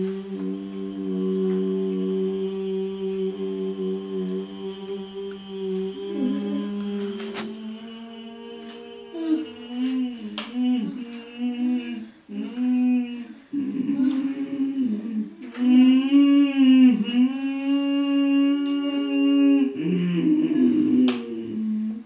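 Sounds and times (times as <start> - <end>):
voices humming held notes: 0.0 - 22.0.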